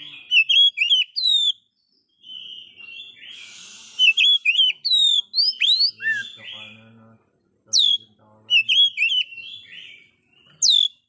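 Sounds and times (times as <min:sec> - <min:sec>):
bird singing whistled phrases: 0:00.0 - 0:06.8, 0:07.7 - 0:11.0.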